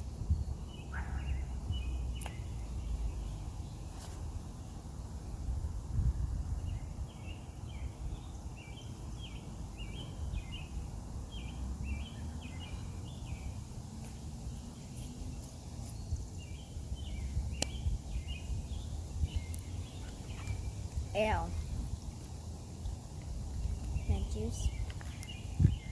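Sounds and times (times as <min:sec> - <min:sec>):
small bird chirping: 0:00.3 - 0:04.2, 0:06.6 - 0:25.9.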